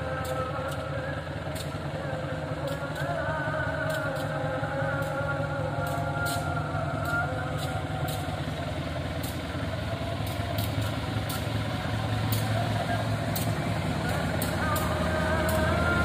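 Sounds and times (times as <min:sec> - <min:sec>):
diesel locomotive engine humming: 0:00.0 - 0:16.0.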